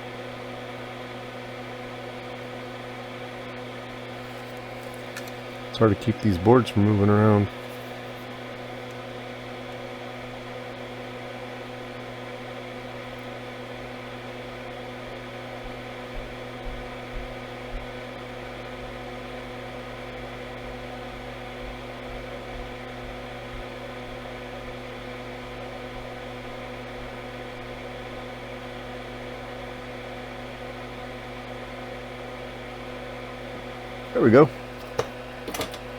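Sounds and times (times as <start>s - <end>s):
electrical hum: 0.0s - 35.9s
faint whir of bench equipment: 0.0s - 35.9s.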